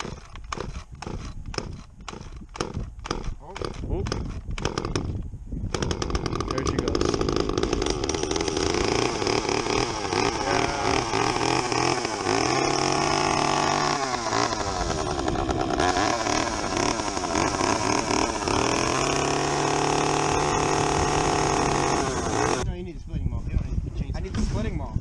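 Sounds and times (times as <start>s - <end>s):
chainsaw idling and revving: 0.0s - 5.1s, 5.7s - 22.6s.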